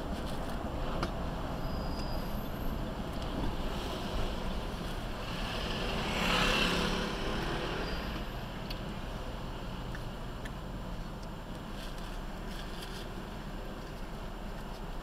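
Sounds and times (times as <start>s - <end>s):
truck engine and tyre noise: 0.0s - 15.0s.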